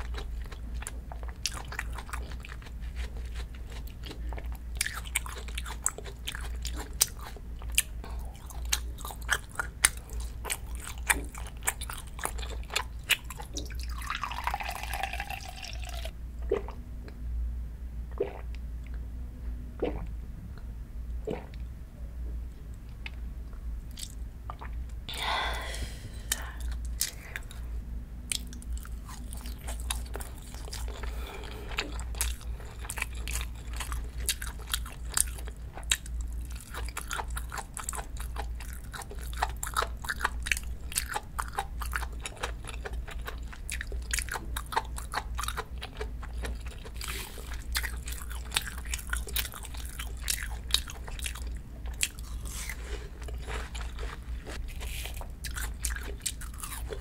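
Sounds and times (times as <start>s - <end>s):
person chewing crunchy food: 0.0s - 16.8s, 23.9s - 24.8s, 25.6s - 27.7s, 28.3s - 57.0s
steady low hum: 0.0s - 57.0s.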